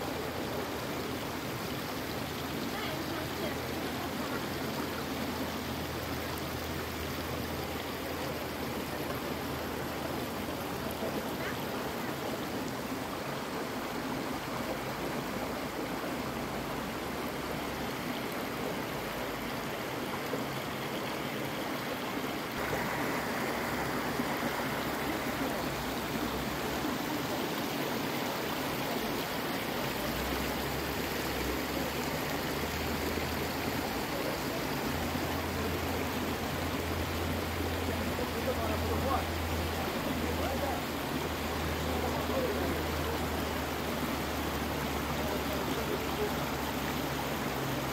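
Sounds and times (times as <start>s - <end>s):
creek water rushing over stones: 0.0s - 47.9s.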